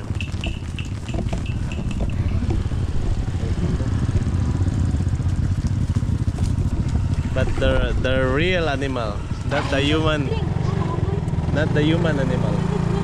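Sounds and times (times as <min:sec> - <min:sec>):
motor scooter engine running: 0:00.0 - 0:13.0.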